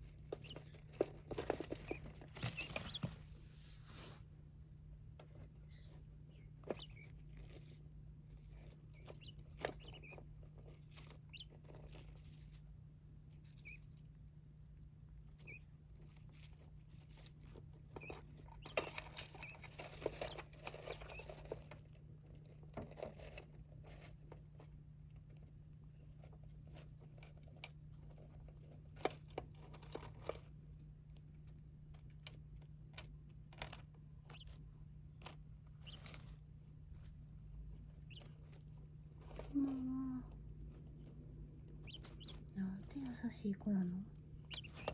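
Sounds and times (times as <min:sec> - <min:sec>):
birds pecking and scratching: 0:00.0 - 0:04.2, 0:04.8 - 0:44.9
steady low hum: 0:00.0 - 0:44.9.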